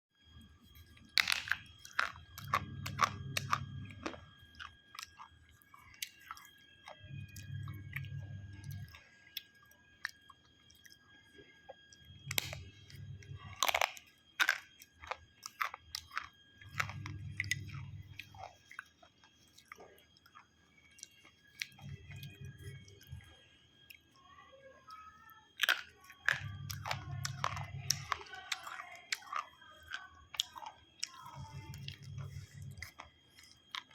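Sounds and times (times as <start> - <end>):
person chewing crunchy food: 0.6 - 11.0, 11.7 - 24.0, 25.6 - 33.9.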